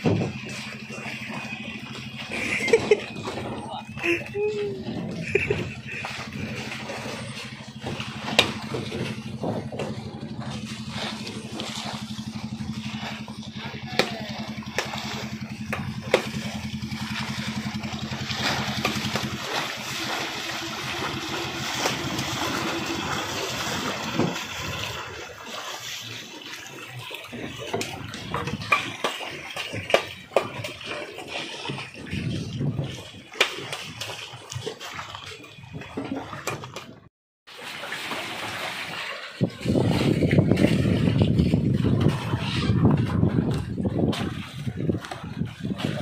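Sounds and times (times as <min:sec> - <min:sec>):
boat engine running: 0:00.0 - 0:46.0
waves sloshing against hull: 0:00.0 - 0:46.0.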